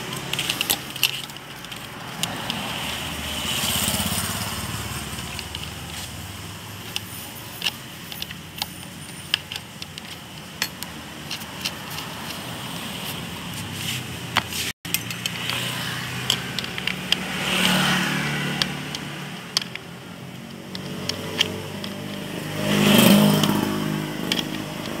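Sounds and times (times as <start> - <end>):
metal parts and tools clicking: 0.0 - 25.0.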